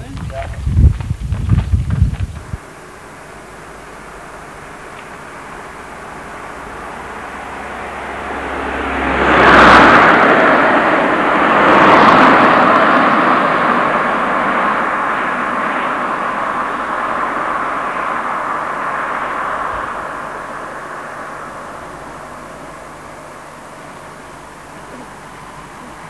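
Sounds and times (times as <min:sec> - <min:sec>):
traffic tyre and air rush: 0:00.0 - 0:26.0.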